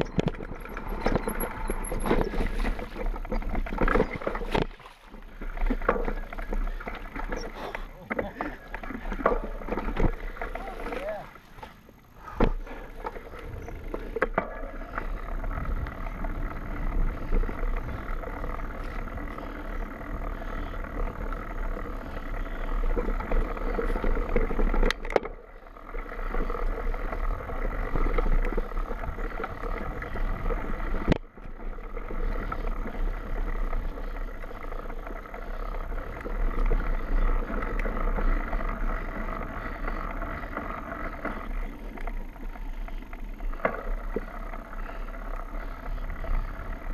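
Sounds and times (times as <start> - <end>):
wind rumbling on microphone: 0.0 - 7.5, 8.6 - 46.9
bike tyre and drivetrain rattle: 0.0 - 46.9.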